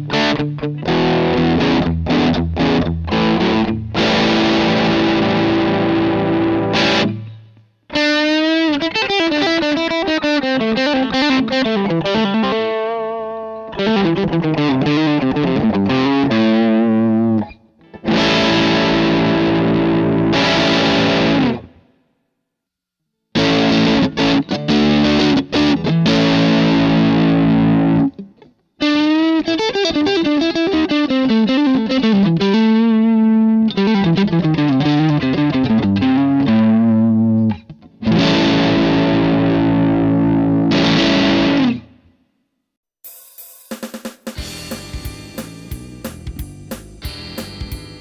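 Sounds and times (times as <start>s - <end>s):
overdriven electric guitar: 0.0s - 22.0s, 23.3s - 42.2s, 44.4s - 48.0s.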